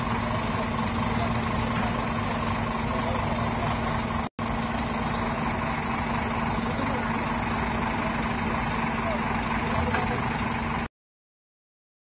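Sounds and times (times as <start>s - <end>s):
truck diesel engine idling: 0.0s - 10.9s.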